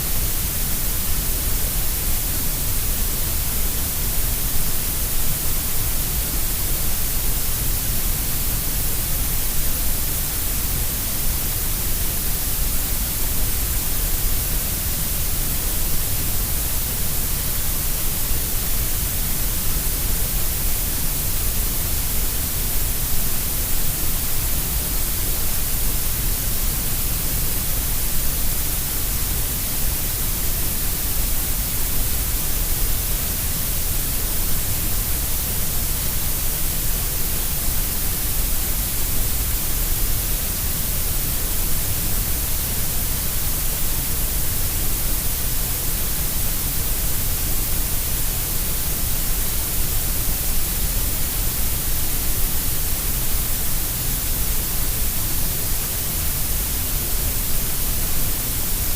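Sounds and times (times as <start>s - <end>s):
steady grey noise hiss: 0.0s - 58.9s.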